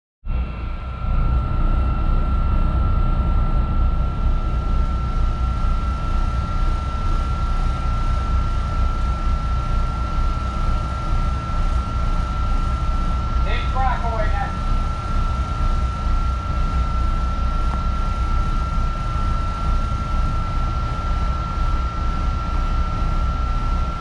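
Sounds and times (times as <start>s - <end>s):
constant high whine: 0.3s - 24.0s.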